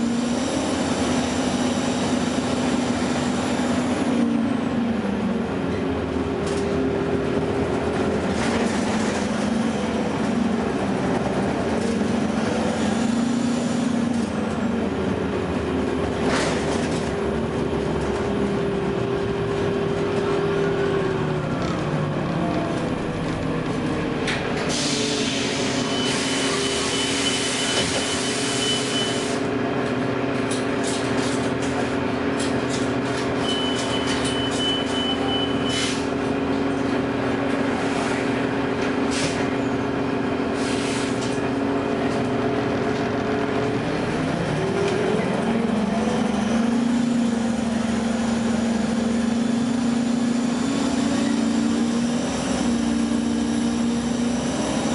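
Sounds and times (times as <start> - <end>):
bus engine running: 0.0 - 54.9.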